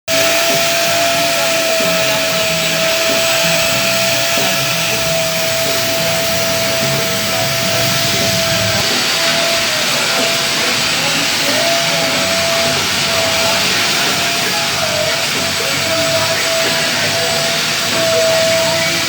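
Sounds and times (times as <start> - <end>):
car wash equipment hissing: 0.0 - 19.0
motor whine: 0.1 - 19.0.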